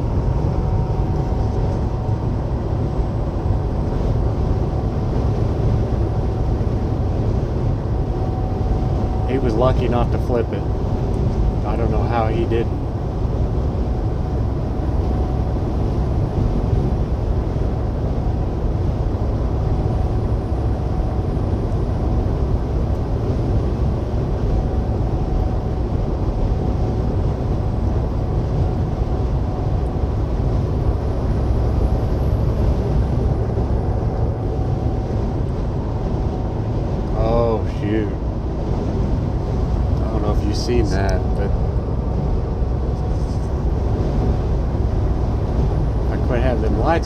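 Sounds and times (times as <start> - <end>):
truck cruising from inside cab: 0.0 - 47.0.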